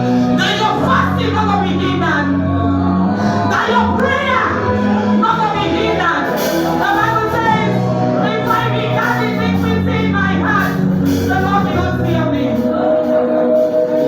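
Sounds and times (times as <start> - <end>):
held low accompanying notes: 0.0 - 14.0
voices singing: 0.0 - 14.0.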